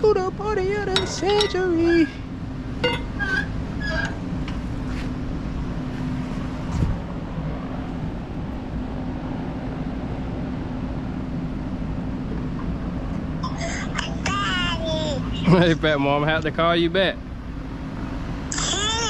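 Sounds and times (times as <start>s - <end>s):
engine idling rumble: 0.0s - 19.0s.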